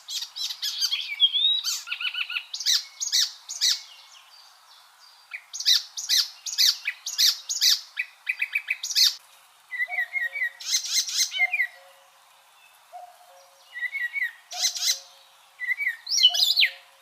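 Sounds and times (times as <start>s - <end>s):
warbler singing: 0.0s - 17.0s.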